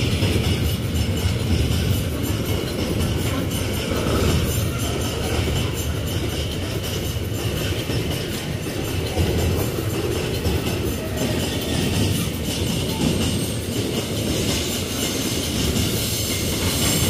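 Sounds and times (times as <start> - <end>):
wagon wheels clattering on rails: 0.0 - 17.0.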